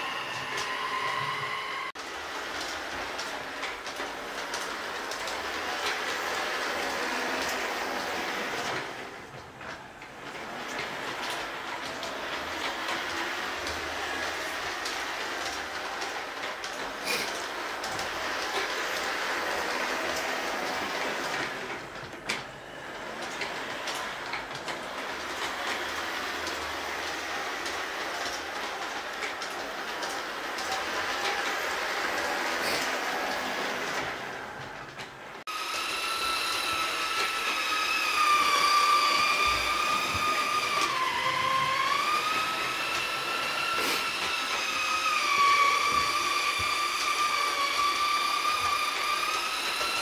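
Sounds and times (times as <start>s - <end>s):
model train wheels rolling on rails: 0.0s - 50.0s.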